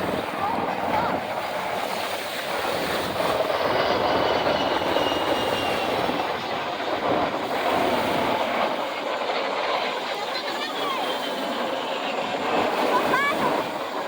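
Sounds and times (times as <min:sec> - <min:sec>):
low-flying aircraft drone: 0:00.0 - 0:14.0.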